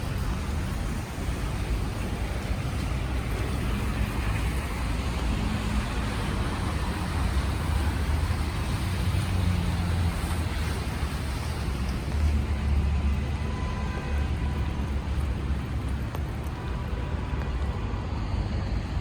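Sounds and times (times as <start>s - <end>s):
tyres on wet road: 0.0s - 19.0s
vehicle engines rumbling: 0.0s - 19.0s.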